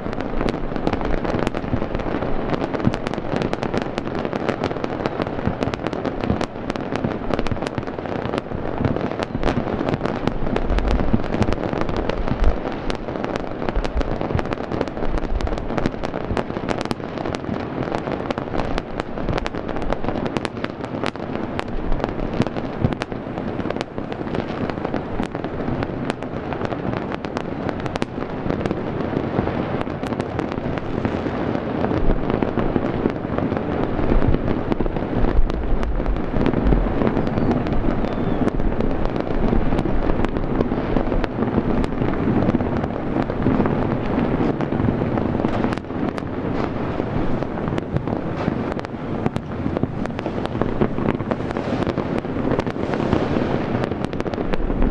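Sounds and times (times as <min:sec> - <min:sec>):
deep fireworks booms: 0:00.0 - 0:54.9
fireworks bangs and crackling: 0:00.0 - 0:54.9.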